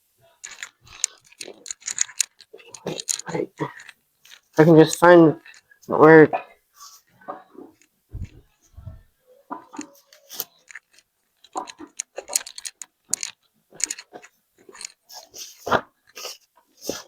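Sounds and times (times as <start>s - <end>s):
handling clicks and rustles: 0.2s - 6.0s, 7.7s - 16.2s.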